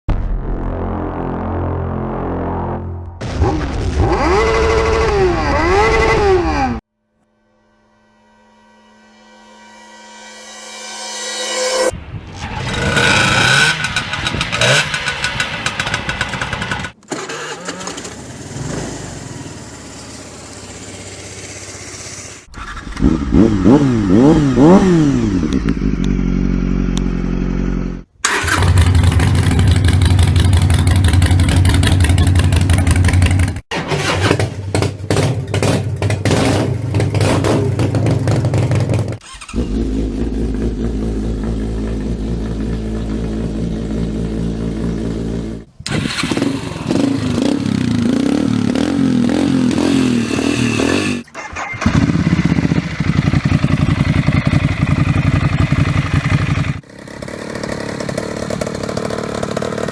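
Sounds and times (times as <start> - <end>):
motorcycle engines revving: 3.2 - 6.8, 12.2 - 34.0, 34.7 - 59.9.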